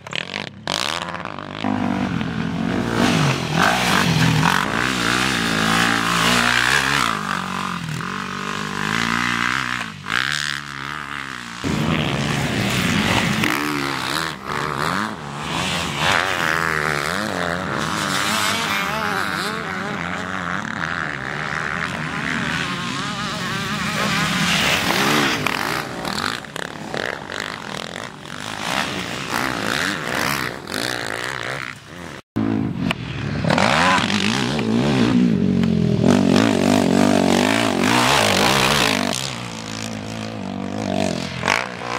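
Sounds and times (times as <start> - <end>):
quad engines revving: 0.0 - 41.9.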